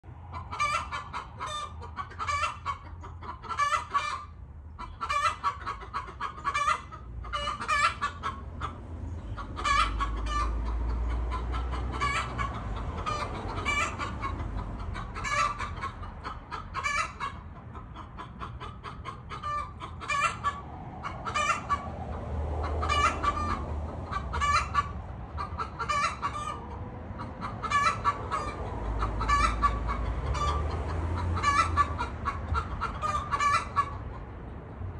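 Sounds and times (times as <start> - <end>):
hens clucking and cackling: 0.1 - 34.9.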